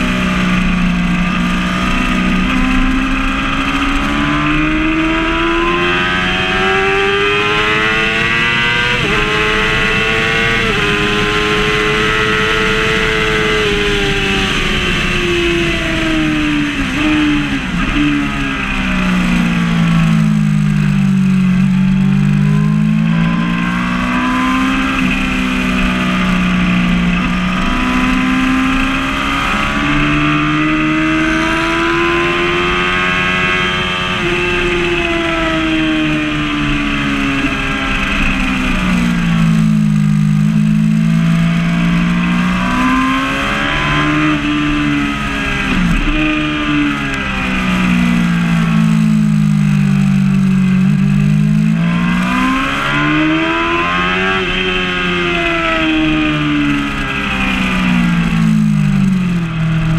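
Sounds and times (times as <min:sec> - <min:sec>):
wind noise: 0:00.0 - 0:49.2
motorcycle engine revving: 0:00.0 - 0:59.9.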